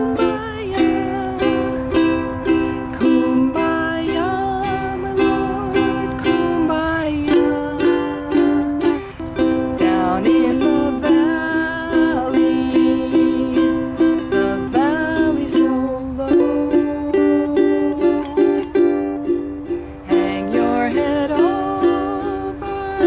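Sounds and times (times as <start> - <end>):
ukulele strummed: 0.0 - 23.0
woman singing: 0.0 - 23.0.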